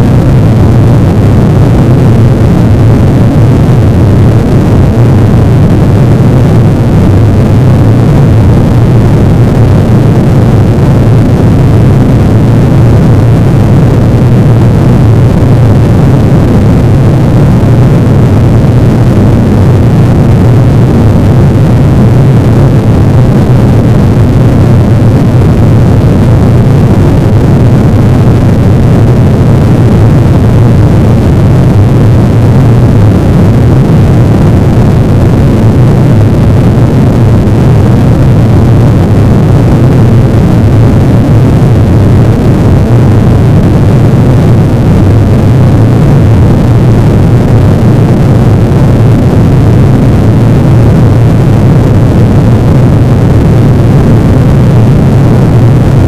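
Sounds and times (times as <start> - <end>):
loud low drone: 0.0 - 56.0.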